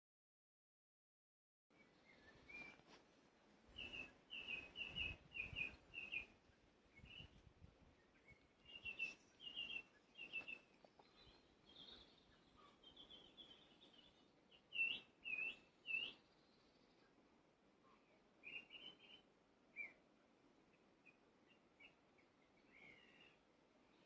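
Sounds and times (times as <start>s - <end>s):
quiet background hush: 1.7s - 24.0s
small birds chirping: 1.7s - 24.0s.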